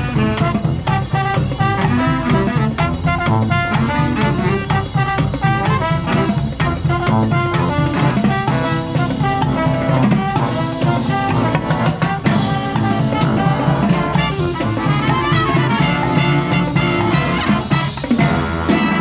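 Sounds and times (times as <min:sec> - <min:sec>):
brass band playing jazz: 0:00.0 - 0:19.0.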